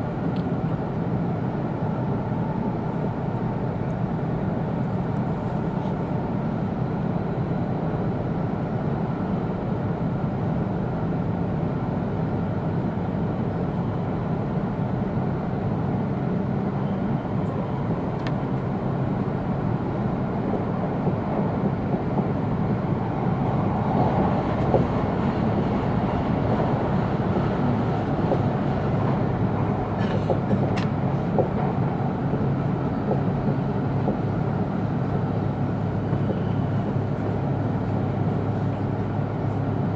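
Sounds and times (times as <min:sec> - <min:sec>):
train cabin running rumble: 0:00.0 - 0:39.9.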